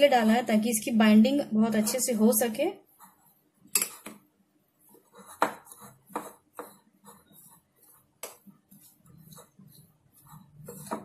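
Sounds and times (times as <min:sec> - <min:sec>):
hand mixing batter in a bowl: 0:00.0 - 0:11.0.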